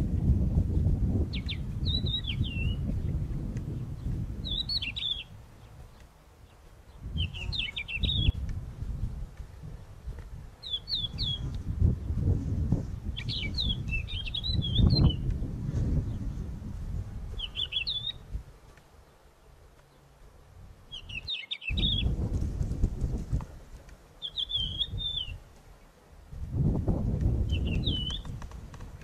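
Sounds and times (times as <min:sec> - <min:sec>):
wind rumble on microphone: 0:00.0 - 0:29.0
songbird chirping and twittering: 0:00.5 - 0:22.2, 0:23.8 - 0:26.0, 0:27.0 - 0:28.4.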